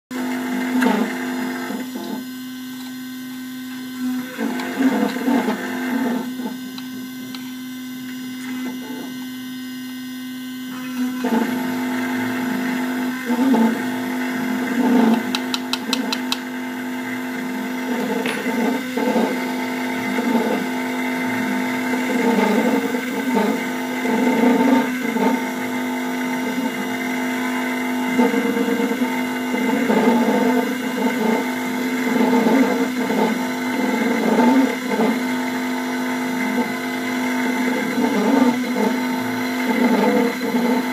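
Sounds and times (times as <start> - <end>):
engraving machine spindle running: 0.1 - 40.9
cutter cutting metal plate: 3.8 - 9.5, 10.3 - 40.9.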